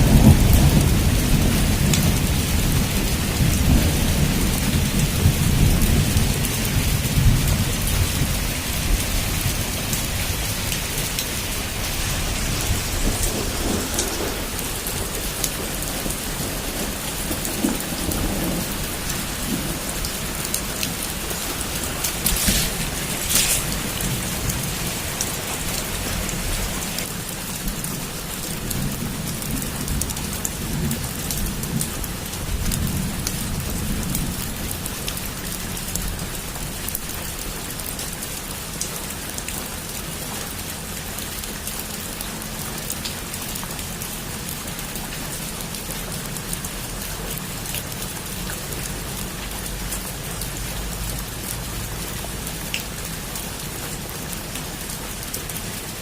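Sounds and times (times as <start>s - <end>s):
heavy rain on a rooftop: 0.0s - 56.0s.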